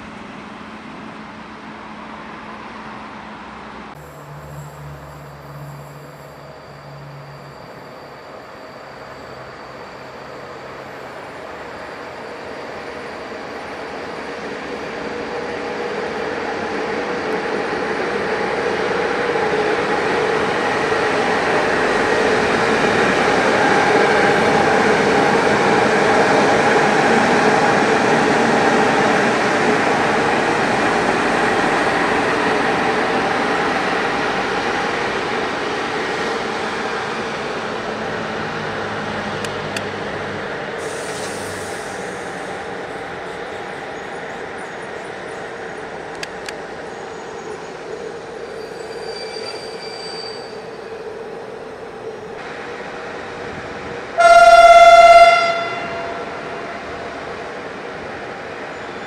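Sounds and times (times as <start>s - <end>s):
train wheels rumbling on rails: 0.0s - 59.0s
locomotive hum: 0.1s - 59.0s.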